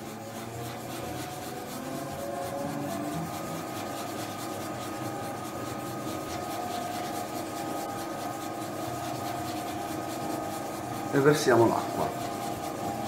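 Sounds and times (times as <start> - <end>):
dough mixer motor whining: 0.0 - 13.0.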